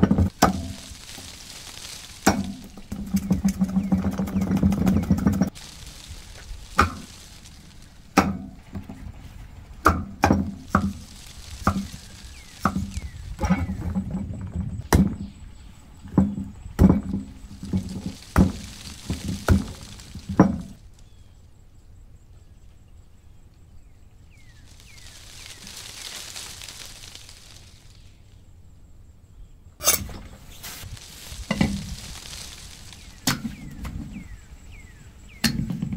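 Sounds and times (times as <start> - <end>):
soft hiss: 0.3 - 3.2, 5.5 - 13.4, 15.2 - 35.5.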